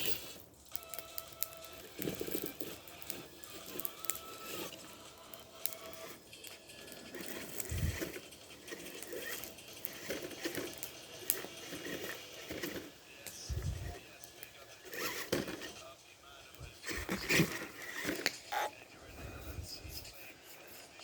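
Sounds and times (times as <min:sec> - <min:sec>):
faint motor whine: 0:00.0 - 0:21.0.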